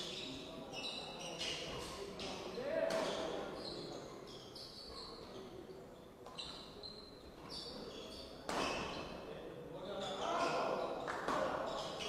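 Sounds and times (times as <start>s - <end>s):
shoe squeaks: 0.0s - 5.6s, 6.2s - 9.2s, 9.8s - 12.0s.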